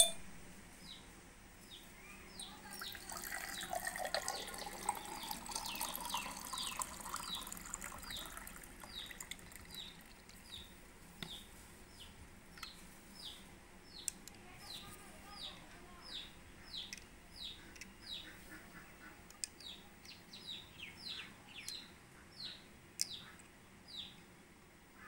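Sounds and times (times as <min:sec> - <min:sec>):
bird chirping: 0:00.0 - 0:00.2, 0:00.8 - 0:18.9, 0:19.5 - 0:24.2.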